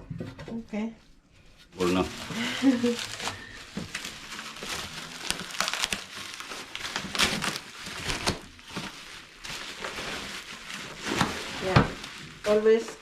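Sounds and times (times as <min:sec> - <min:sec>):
plastic crinkling: 0:01.8 - 0:13.0.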